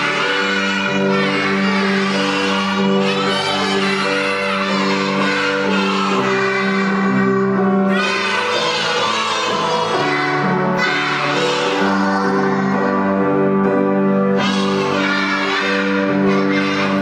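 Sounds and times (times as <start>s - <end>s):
children singing together: 0.0s - 17.0s
musical accompaniment: 0.0s - 17.0s.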